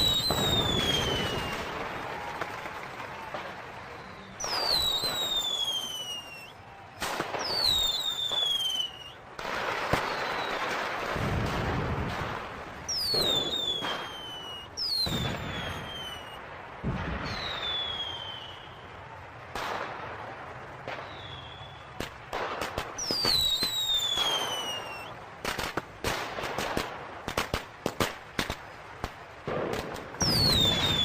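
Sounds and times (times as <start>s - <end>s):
fireworks bursts: 0.0s - 31.0s
whistling rockets: 0.0s - 31.0s.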